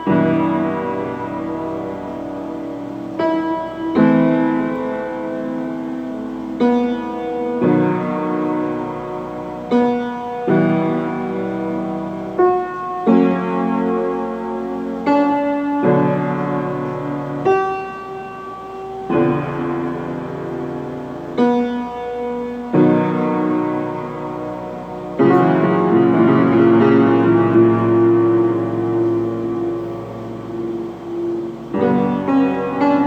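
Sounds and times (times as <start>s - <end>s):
solo piano chords: 0.0s - 33.0s.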